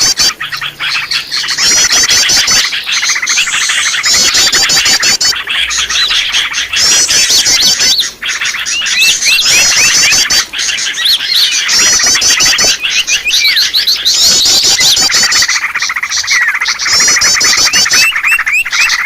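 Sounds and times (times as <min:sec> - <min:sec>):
chorus of small songbirds chirping: 0:00.0 - 0:19.0.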